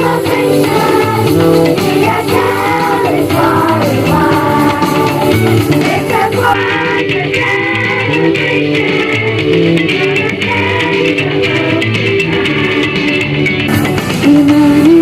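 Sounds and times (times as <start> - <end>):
children's choir singing: 0.0 - 13.3
instrumental band accompaniment: 0.0 - 15.0.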